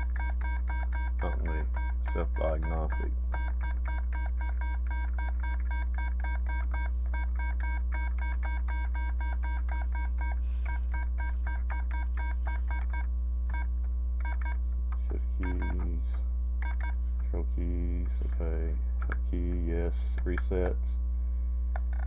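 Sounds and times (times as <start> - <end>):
low mains hum: 0.0 - 22.0.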